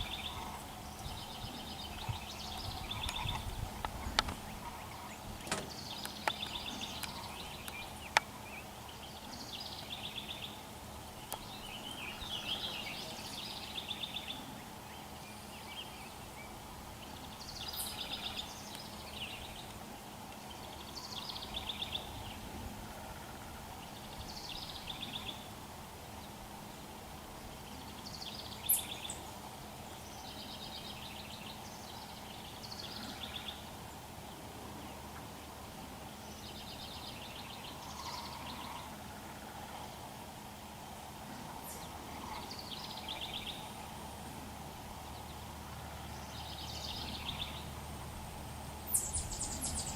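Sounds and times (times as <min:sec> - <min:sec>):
small birds trilling: 0:00.0 - 0:25.5, 0:30.0 - 0:40.0, 0:41.3 - 0:44.0, 0:44.9 - 0:49.9
low background hum: 0:00.0 - 0:49.9.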